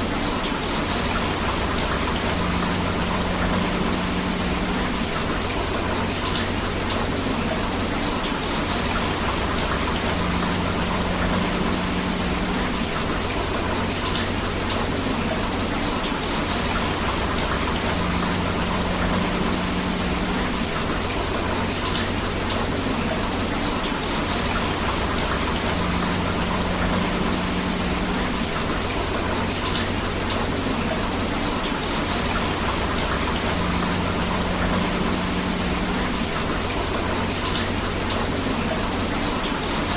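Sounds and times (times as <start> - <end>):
flowing river water: 0.0 - 39.9
steady rain: 0.0 - 39.9.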